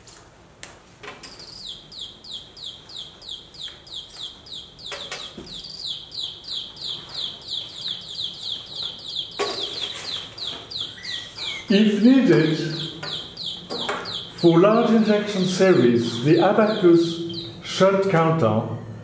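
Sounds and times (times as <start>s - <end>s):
baby chicks peeping: 1.3s - 18.1s.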